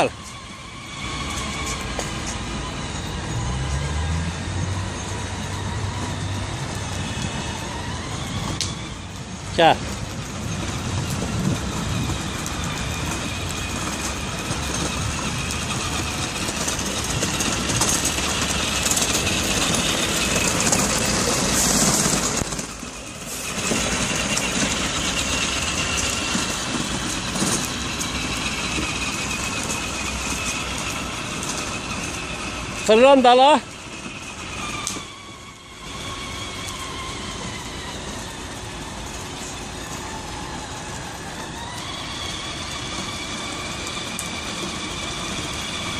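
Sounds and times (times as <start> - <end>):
toy car wheels rattling on paving: 0.0 - 45.9.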